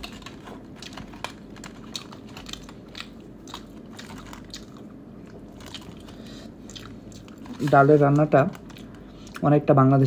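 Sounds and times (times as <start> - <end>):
person chewing food: 0.0 - 9.5.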